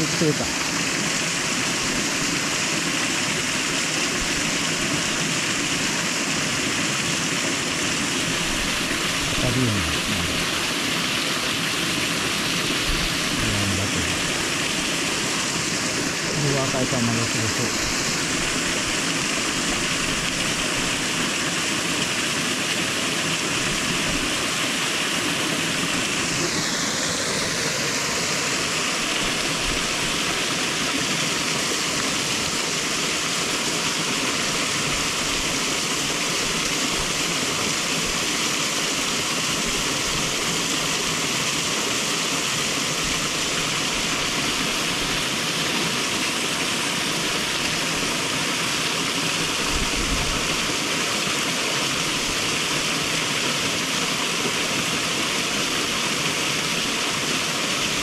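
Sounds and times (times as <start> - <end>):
small waterfall rushing: 0.0 - 58.0
stream running over rocks: 0.0 - 58.0.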